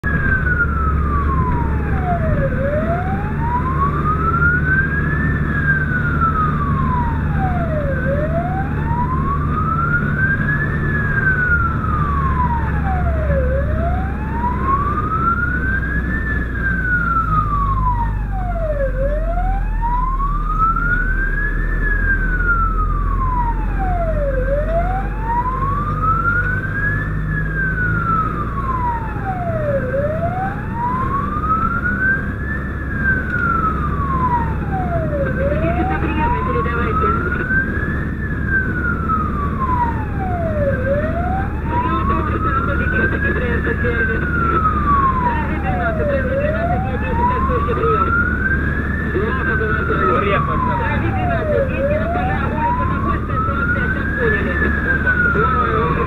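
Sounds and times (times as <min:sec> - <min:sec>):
engine and road rumble: 0:00.0 - 0:56.0
fire engine wail siren: 0:00.0 - 0:56.0.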